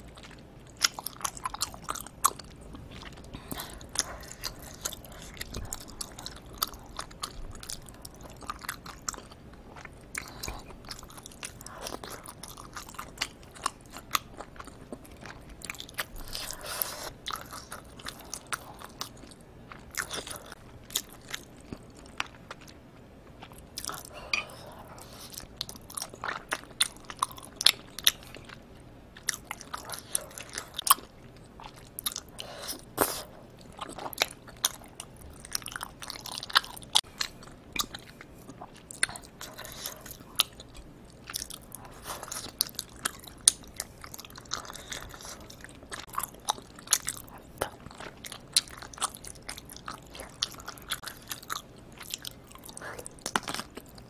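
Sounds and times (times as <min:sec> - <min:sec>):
person chewing wet sticky food: 0:00.0 - 0:54.0.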